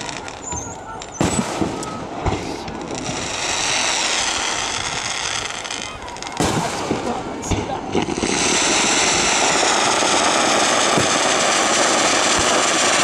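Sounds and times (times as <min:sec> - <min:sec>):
firework bangs: 0:00.0 - 0:13.0
firework crackling hiss: 0:00.0 - 0:13.0.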